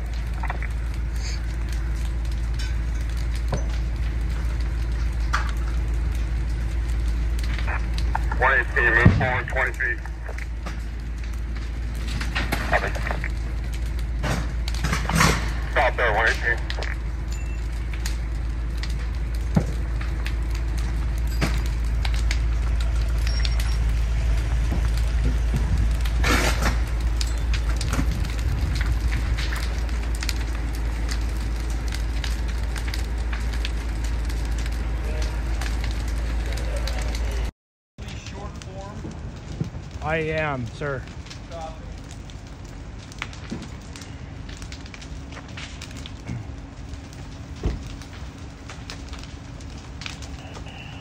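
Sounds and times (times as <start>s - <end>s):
fire crackling and popping: 0.0s - 51.0s
fire low rumble: 0.0s - 51.0s.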